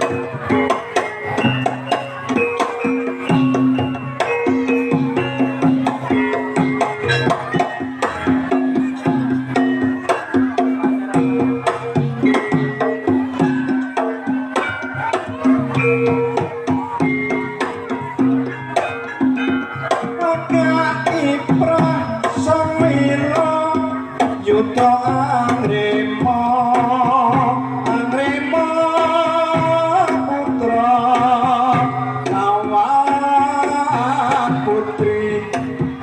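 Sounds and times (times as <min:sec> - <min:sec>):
repeating melodic notes: 0:00.0 - 0:36.0.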